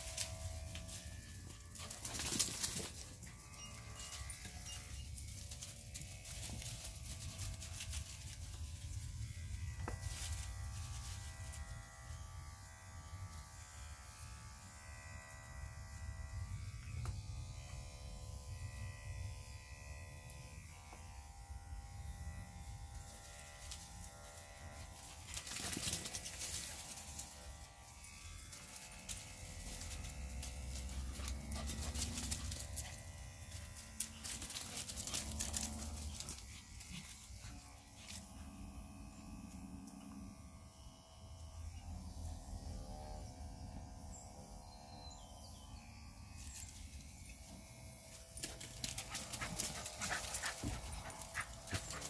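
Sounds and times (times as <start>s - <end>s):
electric clippers buzzing: 0.0s - 52.0s.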